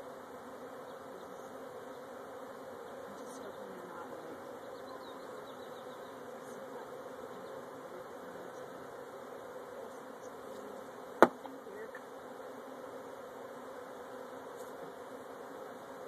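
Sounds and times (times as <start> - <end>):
honeybee swarm buzzing: 0.0 - 16.0.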